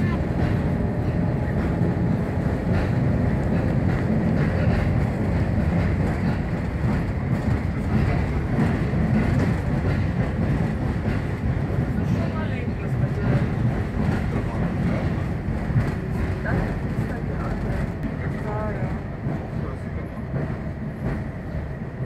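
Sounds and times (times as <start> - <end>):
rail joint clicks: 0.0 - 22.0
railcar wheels rumbling on rails: 0.0 - 22.0.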